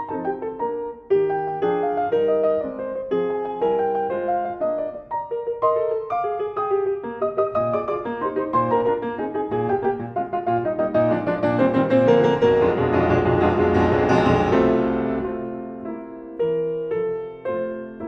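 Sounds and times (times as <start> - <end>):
solo classical piano: 0.0 - 18.0.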